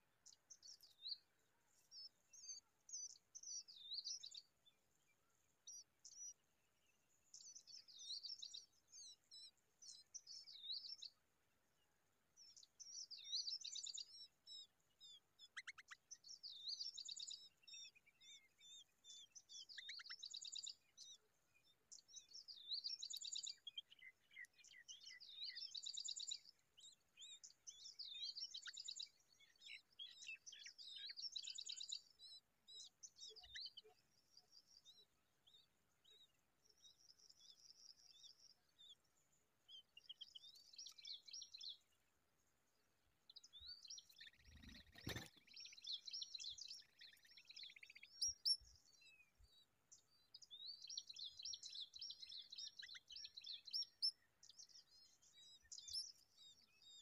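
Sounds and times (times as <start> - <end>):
birds chirping and trilling: 0.2 - 11.2, 11.8 - 57.0.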